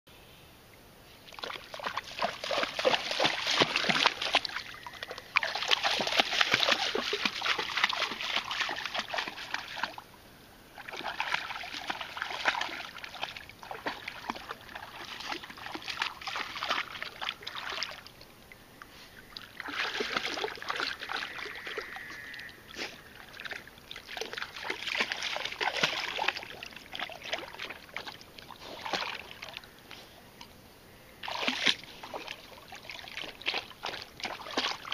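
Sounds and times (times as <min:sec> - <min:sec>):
dog lapping and splashing water: 0:01.3 - 0:10.0, 0:10.8 - 0:18.2, 0:19.4 - 0:21.8, 0:22.8 - 0:29.6, 0:31.2 - 0:34.9.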